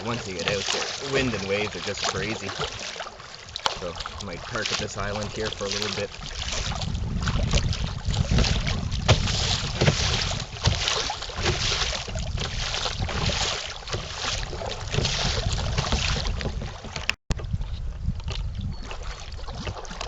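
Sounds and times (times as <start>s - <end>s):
waves splashing against kayak: 0.0s - 17.8s, 18.8s - 20.0s
wind on microphone: 3.8s - 20.0s.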